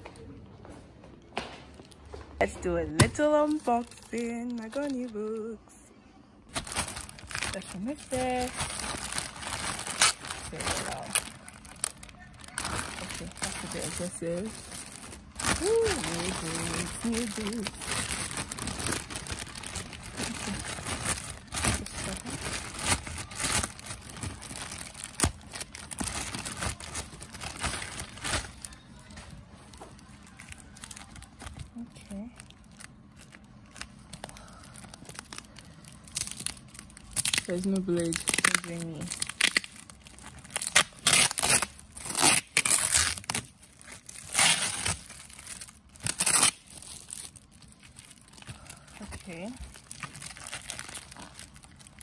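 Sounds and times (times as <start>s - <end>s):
plastic bag rustling and crinkling: 2.4s - 5.8s, 6.5s - 52.0s.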